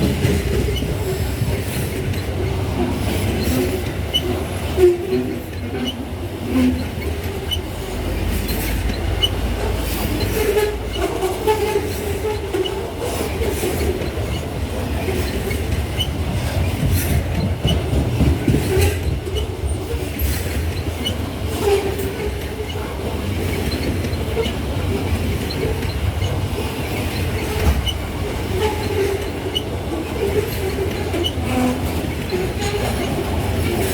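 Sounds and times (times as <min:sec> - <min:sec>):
freight train rumble: 0:00.0 - 0:33.9
wheels clicking over rail joints: 0:00.0 - 0:33.9.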